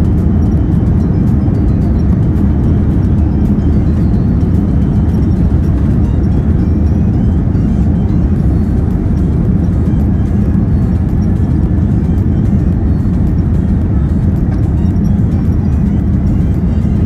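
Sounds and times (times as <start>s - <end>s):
airliner cabin engine noise: 0.0s - 17.0s.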